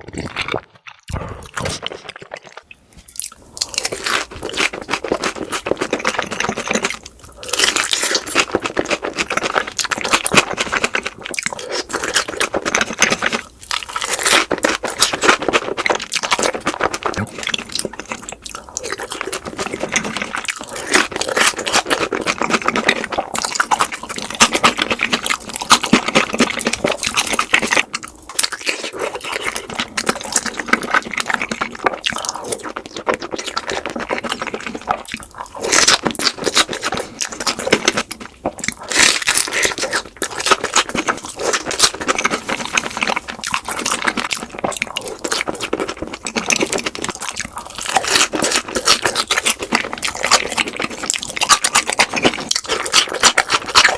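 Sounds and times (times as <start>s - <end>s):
crunching and chewing: 0.0s - 53.9s.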